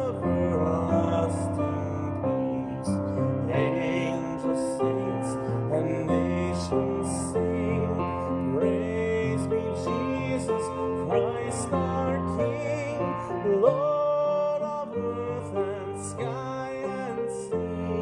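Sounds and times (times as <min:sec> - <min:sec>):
person singing a hymn: 0:00.0 - 0:18.0.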